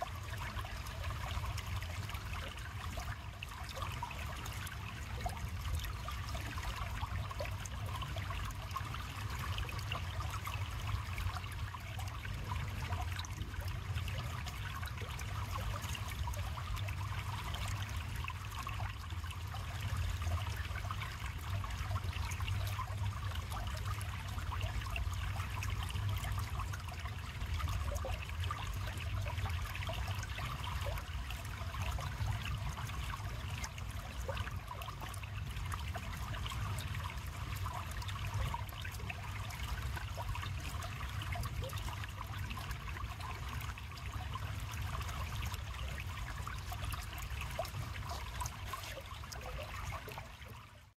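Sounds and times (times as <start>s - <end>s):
low water rumble: 0.0s - 50.9s
river water flowing: 0.0s - 50.9s.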